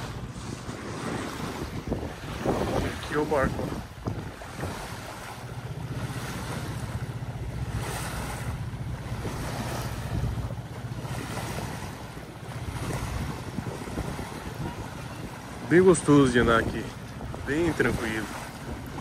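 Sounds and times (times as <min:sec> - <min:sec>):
boat engine humming: 0:00.0 - 0:19.0
water washing along hull: 0:00.0 - 0:19.0
wind on microphone: 0:00.0 - 0:19.0.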